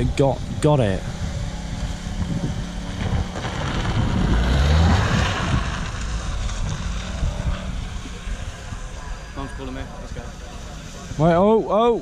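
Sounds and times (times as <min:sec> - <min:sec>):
car engine revving: 0:00.0 - 0:11.6
wind buffeting microphone: 0:00.0 - 0:12.0.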